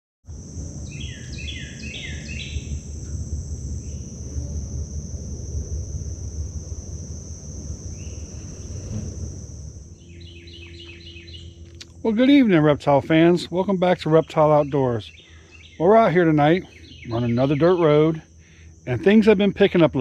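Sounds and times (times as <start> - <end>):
constant low rumble: 0.3 - 20.0
high-pitched insect chorus: 0.3 - 20.0.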